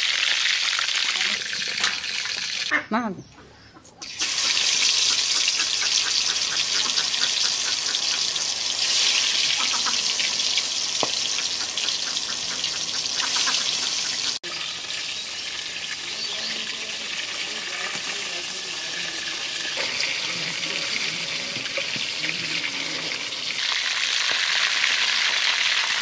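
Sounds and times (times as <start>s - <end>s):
fish sizzling in hot oil: 0.0s - 2.7s, 4.0s - 26.0s.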